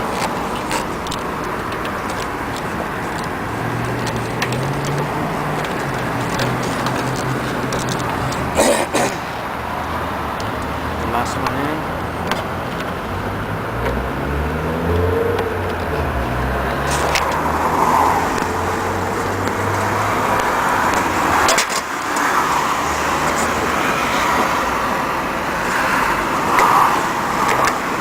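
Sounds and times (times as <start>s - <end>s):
road traffic noise: 0.0s - 28.0s
vehicle engine humming: 0.0s - 28.0s.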